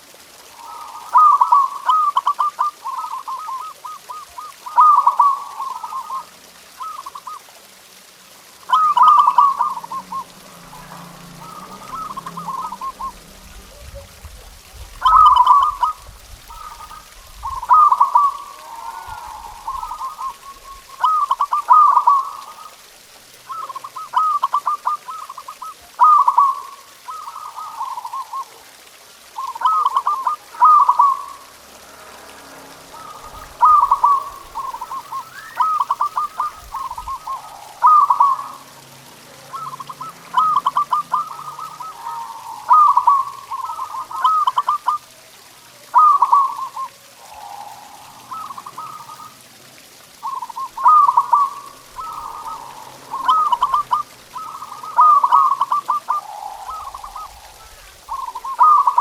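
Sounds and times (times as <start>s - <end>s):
dove cooing: 0.0s - 8.1s, 8.7s - 31.6s, 32.8s - 59.0s.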